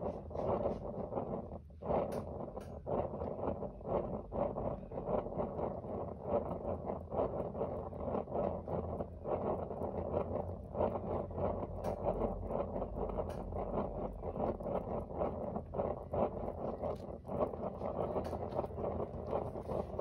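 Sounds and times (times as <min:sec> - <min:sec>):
heater burner flame rushing: 0:00.0 - 0:20.0.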